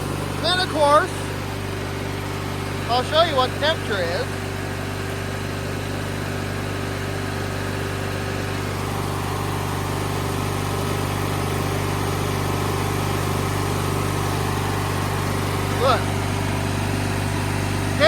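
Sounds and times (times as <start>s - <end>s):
lawnmower engine idling: 0.0s - 18.0s.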